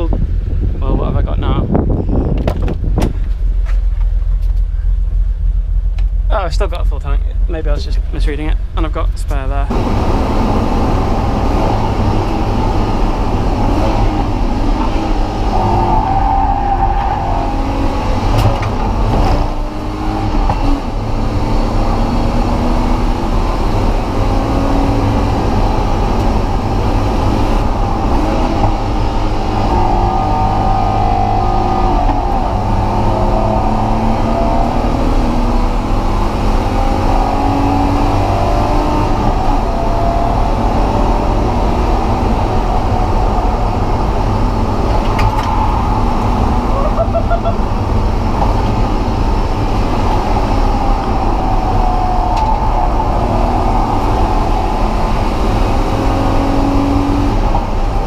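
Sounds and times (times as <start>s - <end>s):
car engine revving hard: 9.5s - 58.0s.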